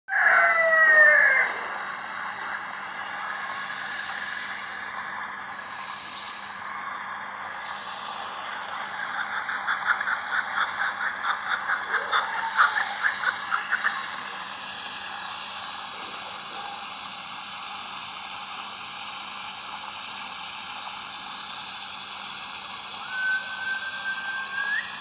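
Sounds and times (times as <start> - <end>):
steady high hiss: 0.1 - 25.0.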